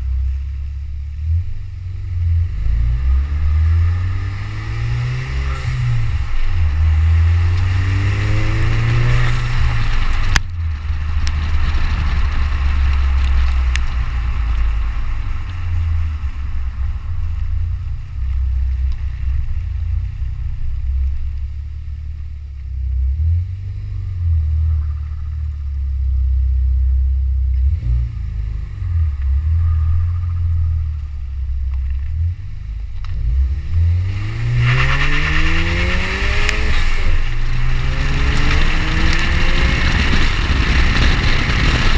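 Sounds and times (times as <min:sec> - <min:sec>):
car exhaust drone: 0:00.0 - 0:41.9.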